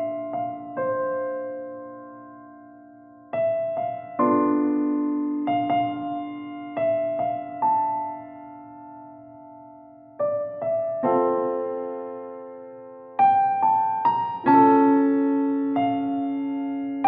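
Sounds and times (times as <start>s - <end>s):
gentle solo piano: 0.0s - 17.0s.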